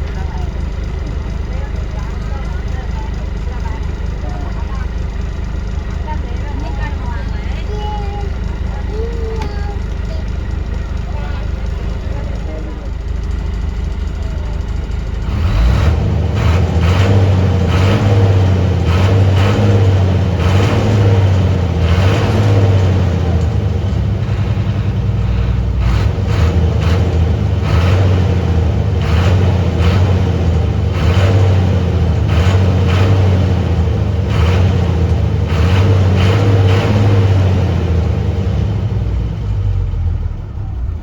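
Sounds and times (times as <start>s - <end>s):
car engine accelerating: 0.0s - 41.0s.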